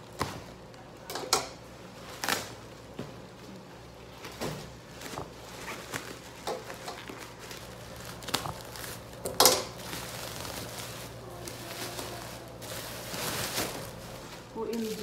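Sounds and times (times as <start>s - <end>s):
plastic wrapping rustling: 1.8s - 15.0s.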